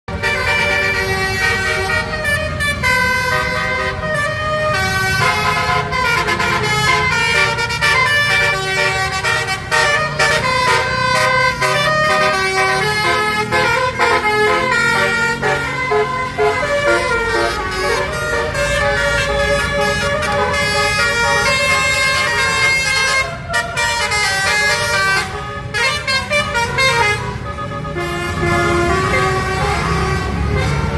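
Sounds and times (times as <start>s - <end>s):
bus engine running low: 0.1s - 30.9s
multi-tone air horn melody: 0.1s - 30.9s.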